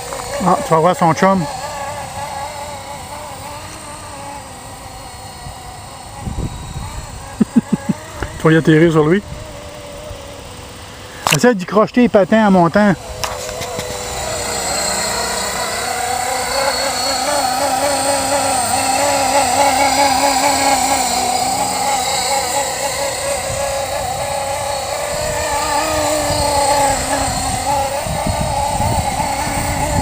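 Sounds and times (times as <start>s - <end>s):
rc helicopter motor whine: 0.0s - 30.0s.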